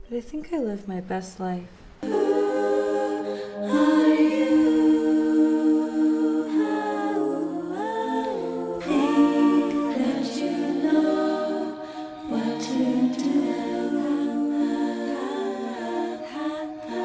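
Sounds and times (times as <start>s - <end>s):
voices singing in harmony: 2.0s - 17.0s.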